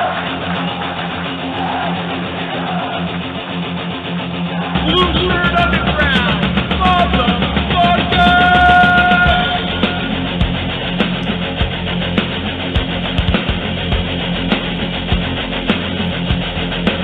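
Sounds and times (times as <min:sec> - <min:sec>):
guitar-led rock music: 0:00.0 - 0:17.0.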